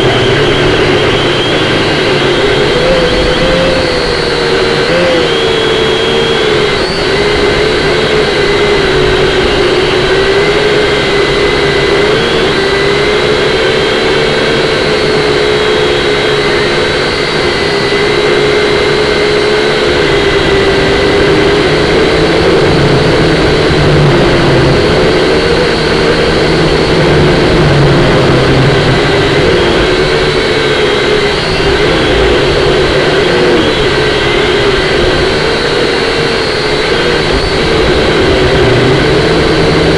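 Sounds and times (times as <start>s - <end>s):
quadcopter motors whining: 0.0s - 39.9s
strong wind rushing: 0.0s - 39.9s.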